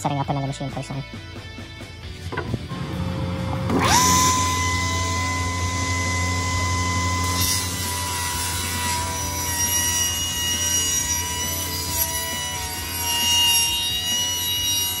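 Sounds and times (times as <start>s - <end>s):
table saw running: 2.7s - 15.0s.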